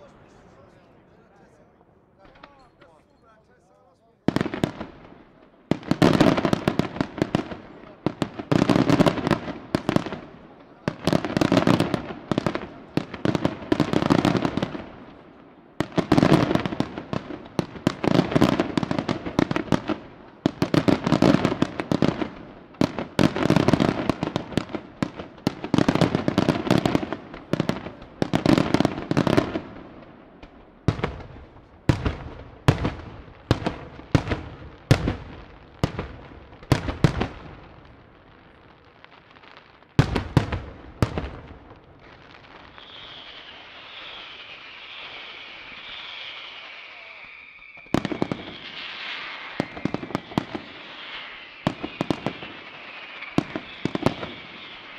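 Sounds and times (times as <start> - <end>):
fireworks bursting and crackling: 4.2 - 54.9.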